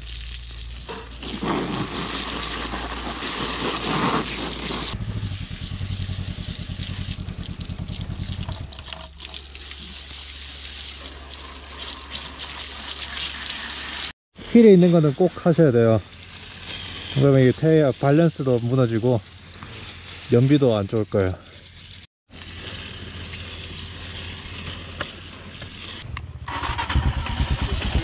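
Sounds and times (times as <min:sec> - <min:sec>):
hose spray splashing on motorcycle: 0:00.0 - 0:14.2, 0:15.8 - 0:26.1.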